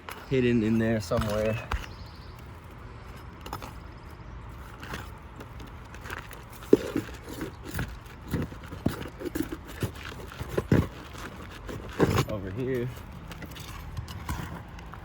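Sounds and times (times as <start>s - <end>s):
tool scraping under shingles: 0.0s - 15.0s.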